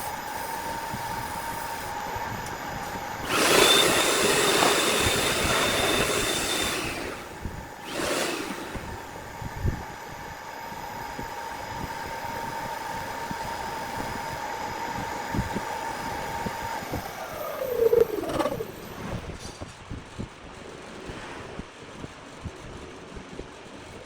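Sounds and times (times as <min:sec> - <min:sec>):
small electric motor whining: 0:00.0 - 0:19.4.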